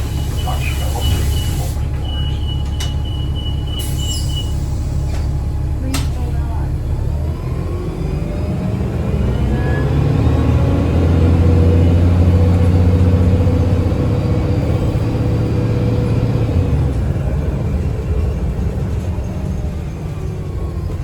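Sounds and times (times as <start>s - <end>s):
bus engine rumble: 0.0s - 21.0s
faint transmission whines: 0.0s - 21.0s.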